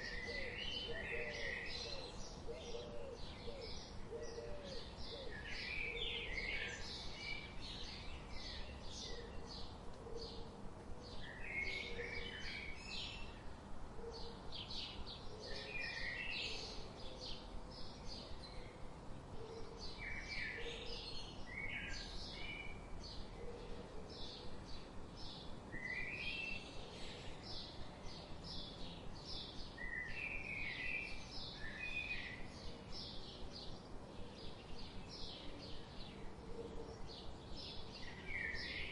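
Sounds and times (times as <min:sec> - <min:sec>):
songbirds chirping: 0:00.0 - 0:38.9
steady background hiss: 0:00.0 - 0:38.9.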